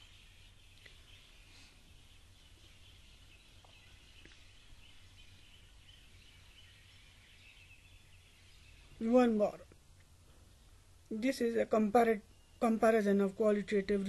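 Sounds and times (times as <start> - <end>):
light hiss: 0.0 - 12.8
steady low hum: 0.0 - 14.0.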